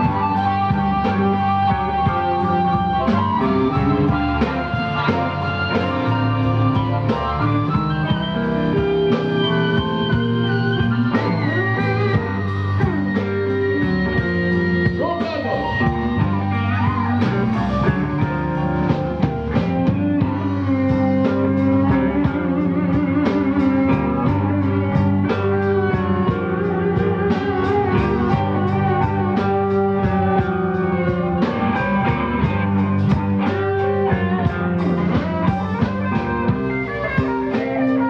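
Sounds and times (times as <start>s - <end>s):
drums: 0.0s - 38.0s
electric guitar: 0.0s - 38.0s
harmonica: 0.0s - 38.0s.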